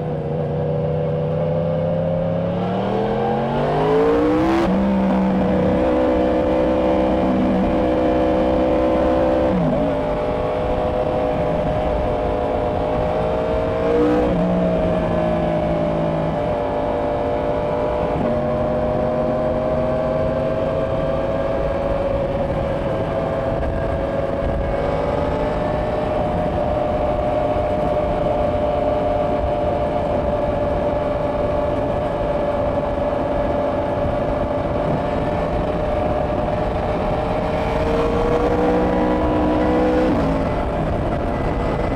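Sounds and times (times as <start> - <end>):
motorcycle engine cruising: 0.0 - 41.9
wind rush on microphone: 2.3 - 41.9.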